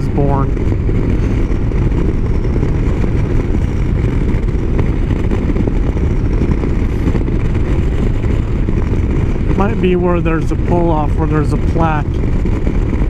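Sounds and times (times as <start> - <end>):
motorcycle engine: 0.0 - 13.0
road noise: 0.0 - 13.0
wind rushing on microphone: 0.0 - 13.0.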